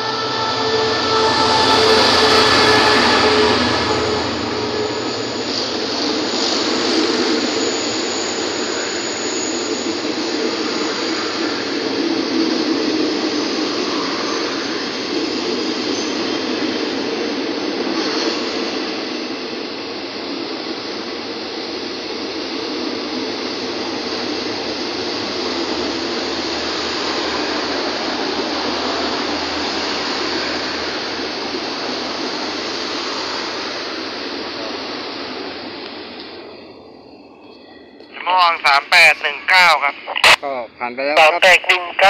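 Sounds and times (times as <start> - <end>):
train coaches rolling past: 0.0 - 17.1, 22.8 - 39.9.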